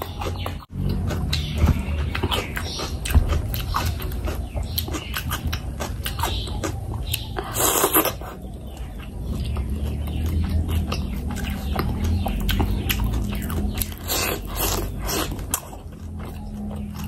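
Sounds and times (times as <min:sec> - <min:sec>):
wet chewing and lip smacking: 0:00.0 - 0:17.0.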